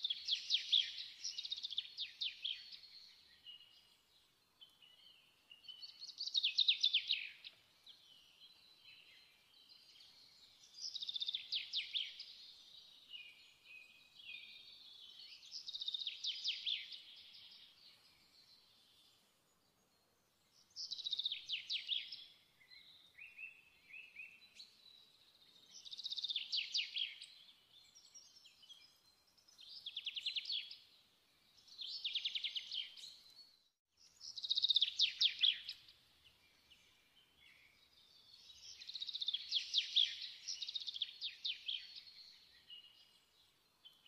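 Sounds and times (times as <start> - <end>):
songbird trilling and chirping: 0.0 - 19.2, 20.5 - 44.0.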